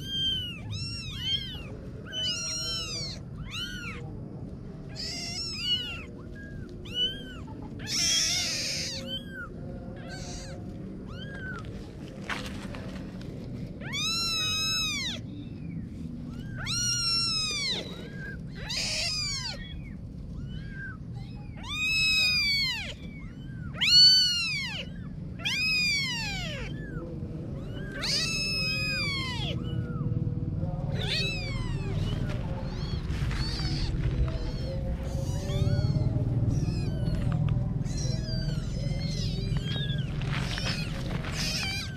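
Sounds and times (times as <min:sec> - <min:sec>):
kitten meowing: 0:00.0 - 0:04.1, 0:04.9 - 0:11.7, 0:13.8 - 0:15.2, 0:16.3 - 0:27.0, 0:27.6 - 0:30.0, 0:30.9 - 0:41.9.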